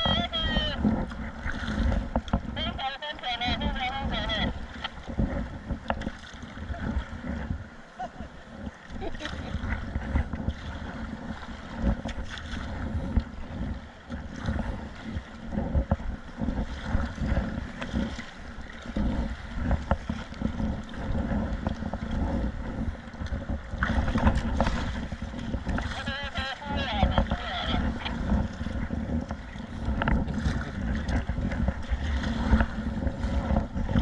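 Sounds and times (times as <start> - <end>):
water splashing around kayak: 0.0 - 34.0
wind buffeting microphone: 0.0 - 34.0.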